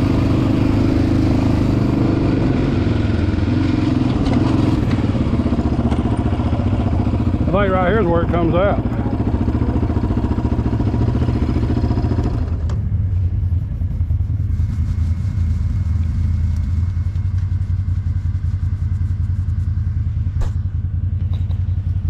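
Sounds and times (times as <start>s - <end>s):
quad bike engine running: 0.0s - 22.0s.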